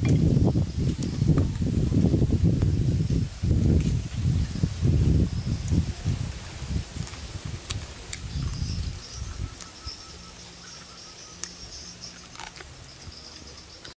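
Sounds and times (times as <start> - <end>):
low rumbling: 0.0 - 13.8.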